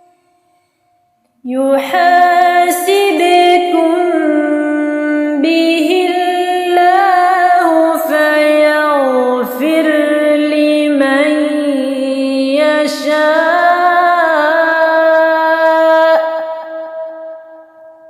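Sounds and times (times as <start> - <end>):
woman chanting recitation: 1.4 - 17.3.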